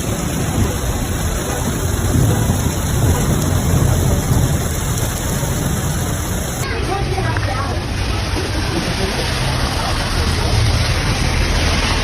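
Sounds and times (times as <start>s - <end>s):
heavy hail and rain pelting: 0.0s - 12.0s.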